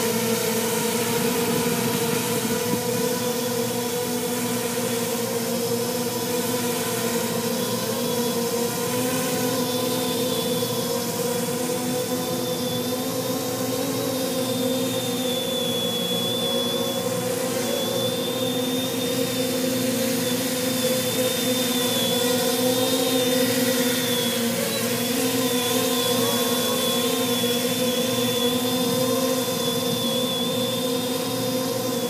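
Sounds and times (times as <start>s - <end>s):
quadcopter buzzing whine: 0.0s - 32.0s.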